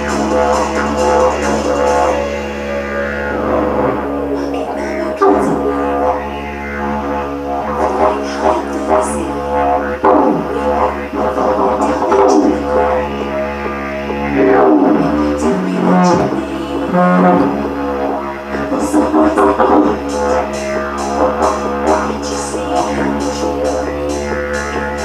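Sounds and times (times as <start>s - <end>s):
didgeridoo drone: 0.0s - 25.0s.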